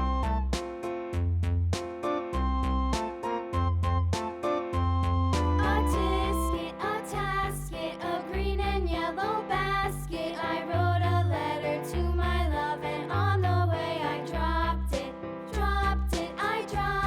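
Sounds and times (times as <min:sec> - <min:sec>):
upbeat children's music: 0:00.0 - 0:17.0.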